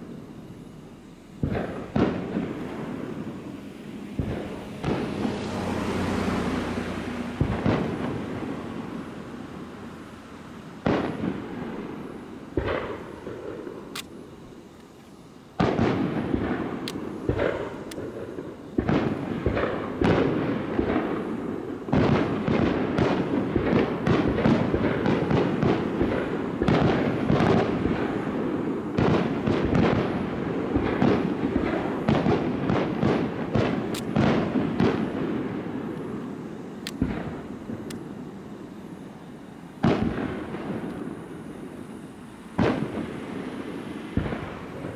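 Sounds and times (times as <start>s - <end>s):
fireworks booming: 0.0s - 14.8s, 15.4s - 44.9s.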